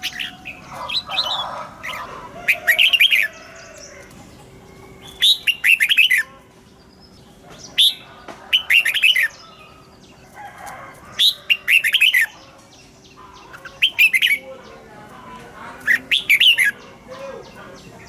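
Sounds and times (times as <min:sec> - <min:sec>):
bulbul singing: 0:00.0 - 0:18.0.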